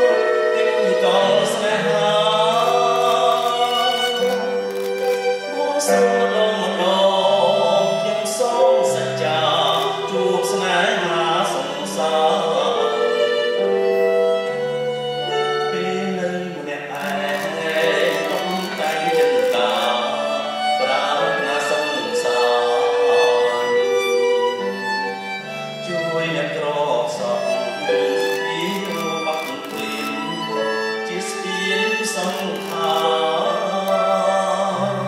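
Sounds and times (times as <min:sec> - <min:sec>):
bowed string instrument: 0:00.0 - 0:35.0
person singing long notes: 0:00.0 - 0:35.0.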